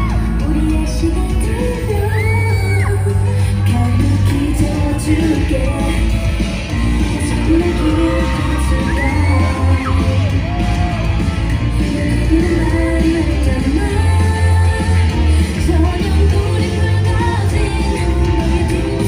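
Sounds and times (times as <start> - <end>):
women singing: 0.0 - 10.2, 11.7 - 19.0
dance song over loudspeakers: 0.0 - 19.0
heavy bass beat: 0.0 - 19.0.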